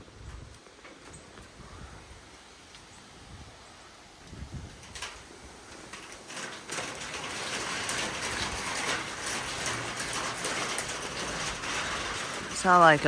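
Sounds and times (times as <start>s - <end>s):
heavy rain pouring: 0.9s - 13.0s.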